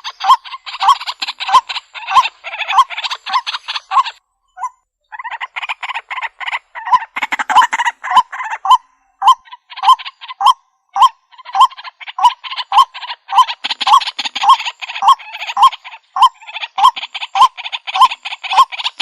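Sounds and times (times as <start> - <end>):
waterhen croaking calls: 0.0 - 19.0.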